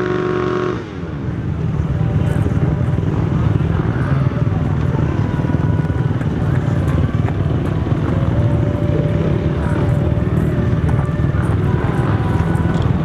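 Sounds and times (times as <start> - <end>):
motocross bike engines droning: 0.0 - 13.0.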